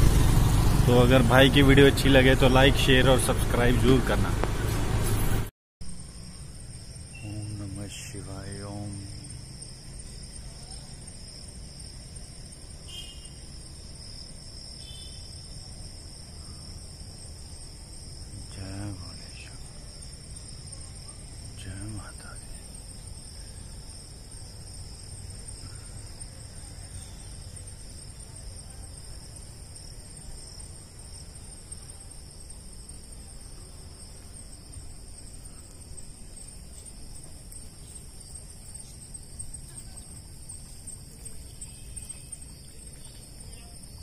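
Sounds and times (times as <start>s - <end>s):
night insects chirping: 0.0s - 4.4s, 5.8s - 44.0s.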